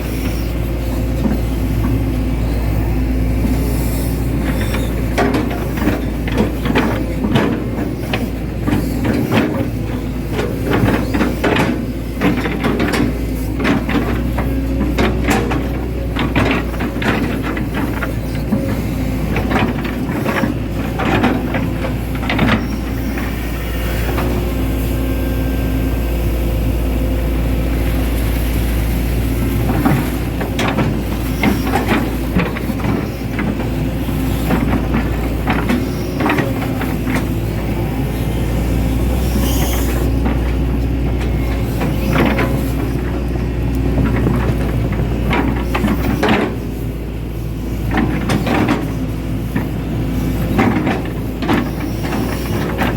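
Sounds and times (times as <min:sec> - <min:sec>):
excavator diesel engine humming: 0:00.0 - 0:52.9.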